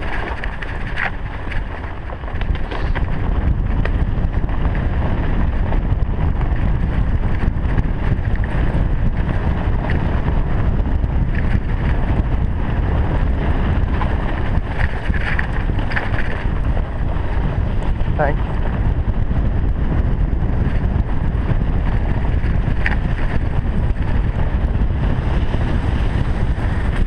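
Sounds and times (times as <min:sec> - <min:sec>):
bike rumble and rattle: 0:00.0 - 0:27.0
wind buffeting microphone: 0:00.0 - 0:27.0.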